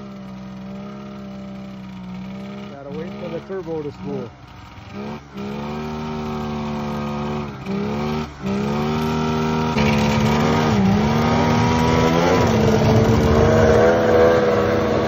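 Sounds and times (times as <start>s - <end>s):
snowmobile engine at high revs: 0.0s - 15.0s.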